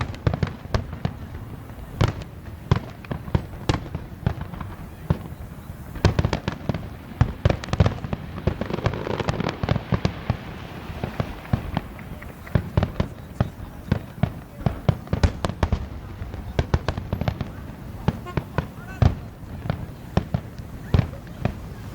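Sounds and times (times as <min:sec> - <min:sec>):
fireworks bangs: 0:00.0 - 0:21.9
hissing crackle: 0:00.0 - 0:21.9.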